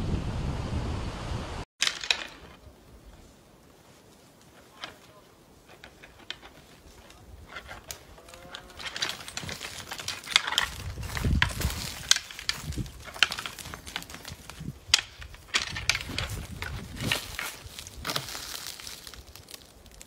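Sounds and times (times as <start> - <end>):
dry twigs crackling: 1.8 - 20.0.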